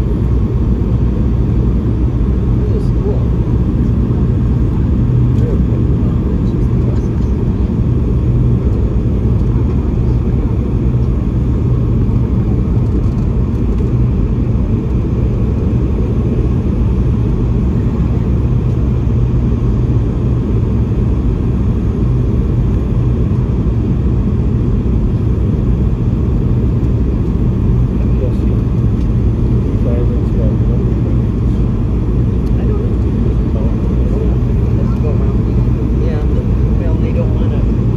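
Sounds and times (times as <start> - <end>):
airliner cabin drone: 0.0 - 37.9.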